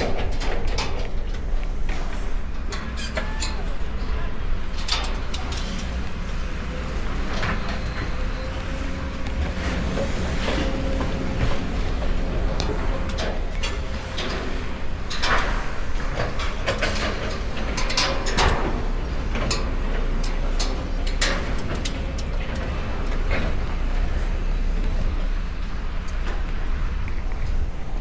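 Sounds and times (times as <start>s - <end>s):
sharp clicks and knocks: 0.0s - 9.4s, 10.4s - 24.2s
steady low rumble: 0.0s - 28.0s.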